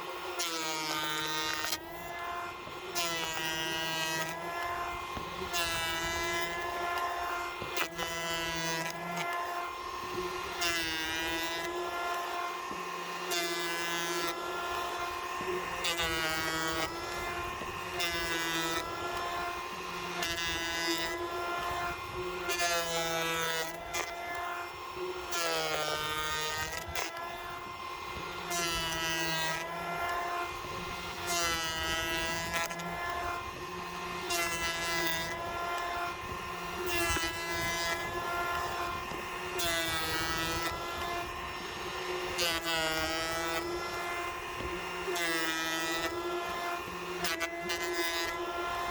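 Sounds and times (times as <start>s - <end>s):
hand planer cutting wood: 0.0s - 48.9s.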